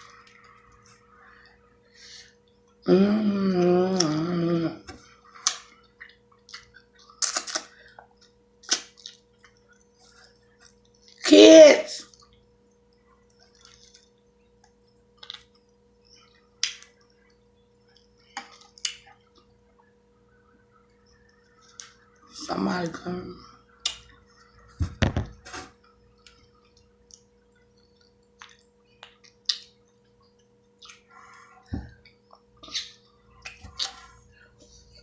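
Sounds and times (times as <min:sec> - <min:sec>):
wet eating sounds: 0:00.0 - 0:11.3, 0:12.0 - 0:20.0, 0:25.4 - 0:35.0
faint steady hum: 0:00.0 - 0:35.0.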